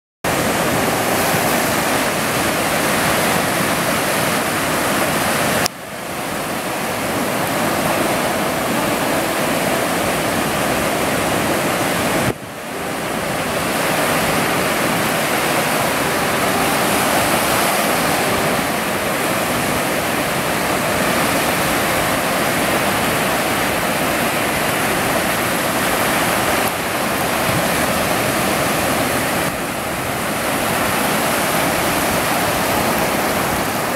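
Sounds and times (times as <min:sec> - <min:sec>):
surf breaking on beach: 0:00.2 - 0:33.9.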